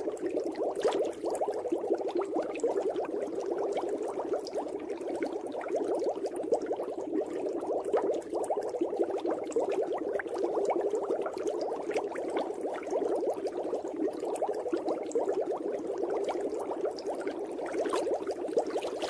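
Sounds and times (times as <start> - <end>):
water bubbling: 0.0 - 19.0.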